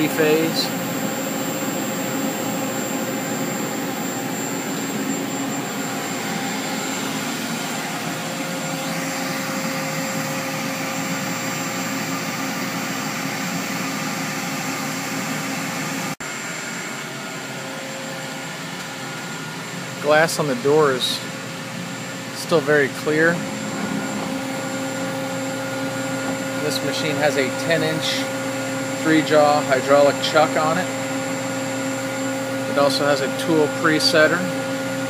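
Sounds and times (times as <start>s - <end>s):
machinery whirring hum: 0.0s - 35.0s.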